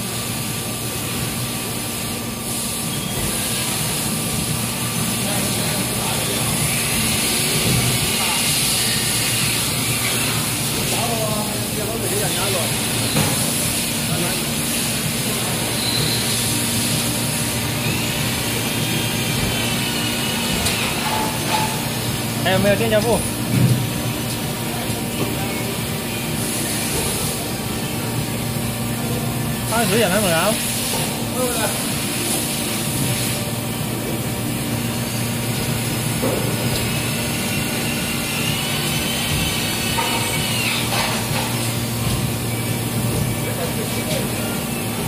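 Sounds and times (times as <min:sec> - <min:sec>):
factory machinery whirring: 0:00.0 - 0:45.0.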